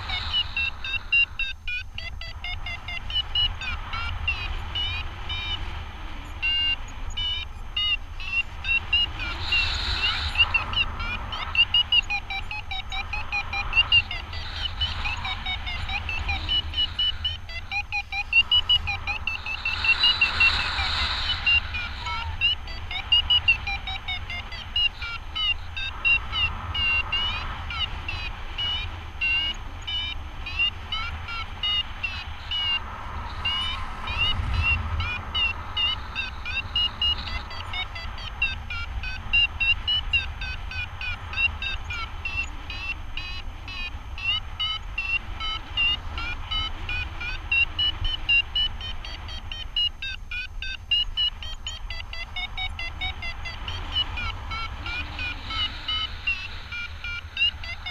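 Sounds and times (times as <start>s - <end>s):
variometer beeping rapidly: 0.0s - 57.9s
wind rumbling on microphone: 0.0s - 57.9s.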